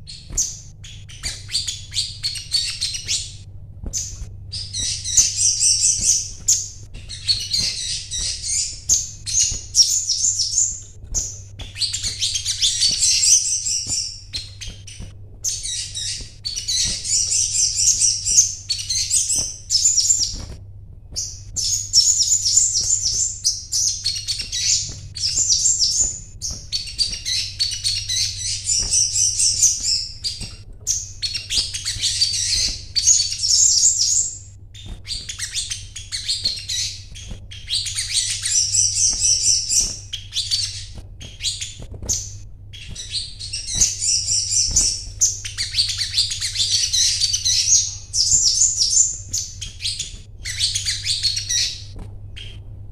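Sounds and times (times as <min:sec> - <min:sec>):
sunbird twittering song: 0:00.0 - 0:52.9.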